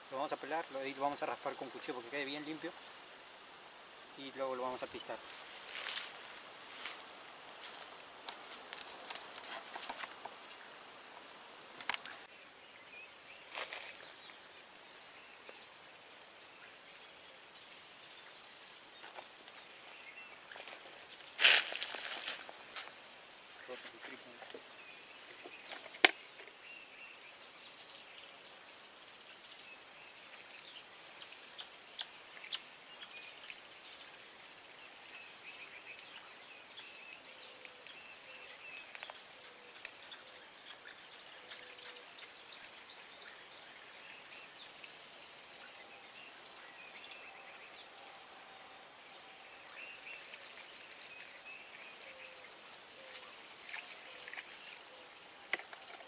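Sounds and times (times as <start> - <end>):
birds: 0.0 - 56.0
insects: 0.0 - 56.0.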